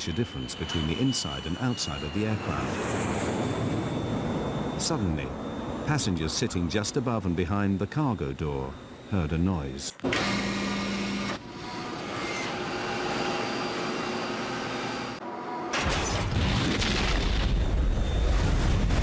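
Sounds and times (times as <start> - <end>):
airliner cabin drone: 0.0 - 15.7.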